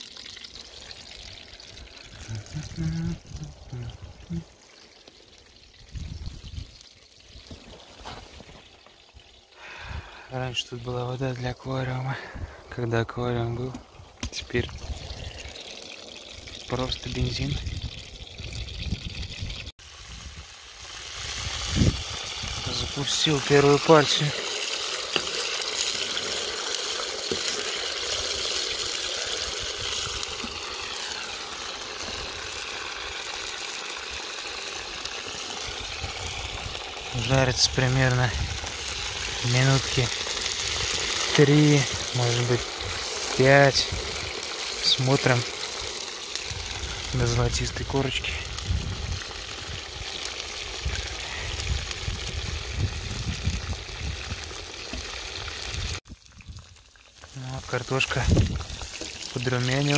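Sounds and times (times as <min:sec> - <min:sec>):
fries sizzling in hot oil: 0:00.0 - 0:59.9.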